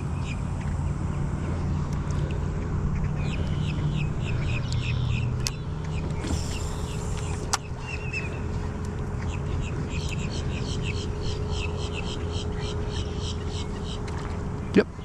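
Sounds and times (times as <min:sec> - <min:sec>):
birds calling: 0:00.0 - 0:15.0
steady low rumble: 0:00.0 - 0:15.0.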